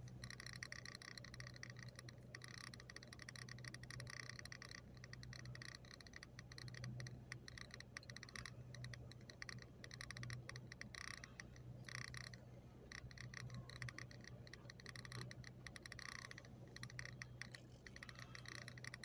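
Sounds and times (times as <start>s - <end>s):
faint rapid clicking: 0.0s - 19.0s
low steady hum: 0.0s - 19.0s.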